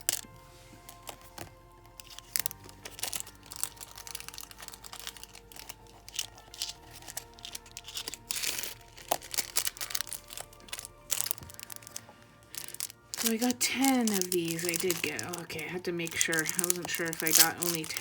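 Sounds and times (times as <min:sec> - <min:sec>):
plastic packaging crinkling: 0:00.0 - 0:18.0
soft background music: 0:00.0 - 0:18.0.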